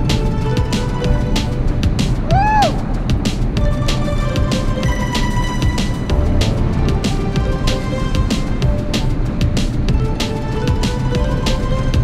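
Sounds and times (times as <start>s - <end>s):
percussion beat: 0.0s - 12.0s.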